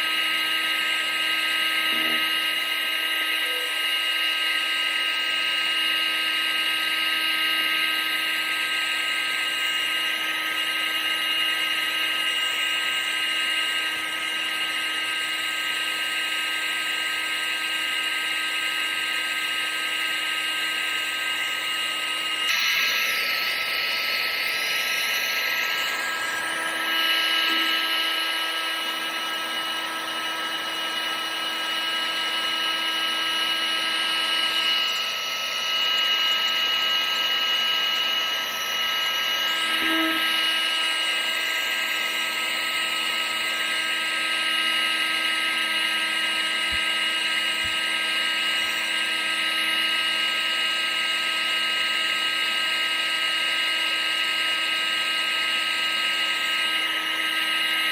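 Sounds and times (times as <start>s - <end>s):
electric blower motor whining: 0.0s - 57.9s.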